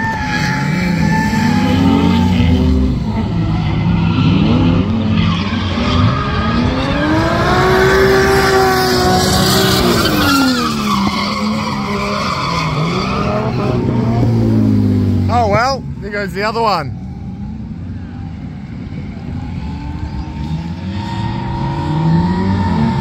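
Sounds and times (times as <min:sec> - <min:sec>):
car engine revving: 0:00.0 - 0:16.0, 0:16.9 - 0:23.0
tyres skidding and squealing: 0:00.0 - 0:23.0.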